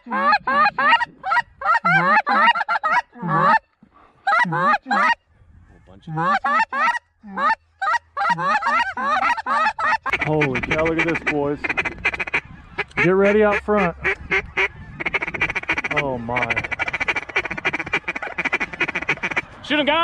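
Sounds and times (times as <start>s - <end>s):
goose call honks: 0.0s - 3.6s, 6.1s - 19.4s.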